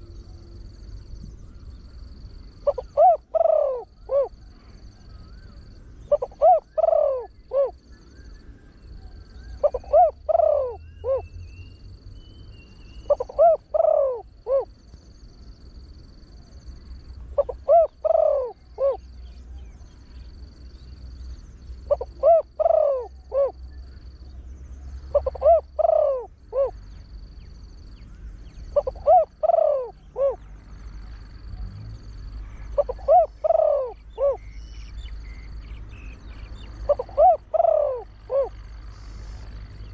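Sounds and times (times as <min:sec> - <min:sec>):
dove cooing: 0:02.4 - 0:07.8, 0:08.9 - 0:11.3, 0:12.8 - 0:14.8, 0:16.4 - 0:24.1, 0:24.8 - 0:39.9.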